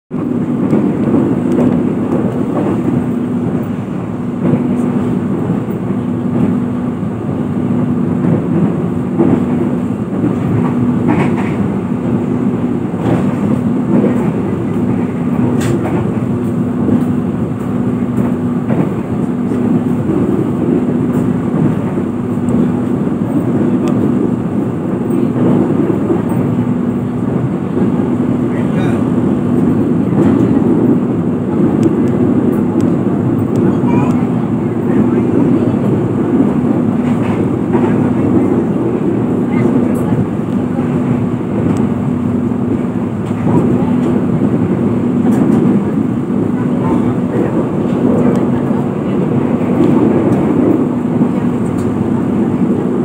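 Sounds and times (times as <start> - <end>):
train wheels rumbling on rails: 0.1 - 53.0.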